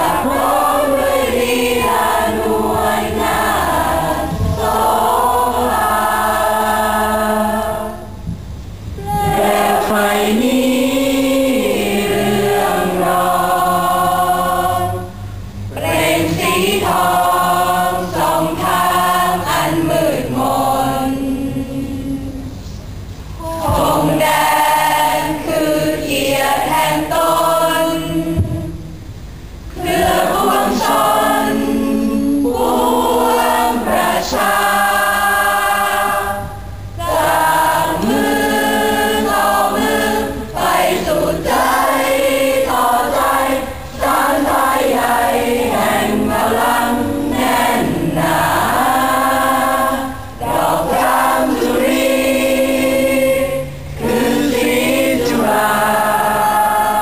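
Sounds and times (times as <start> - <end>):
group of voices singing: 0.0 - 8.3, 8.9 - 28.9, 29.7 - 57.0.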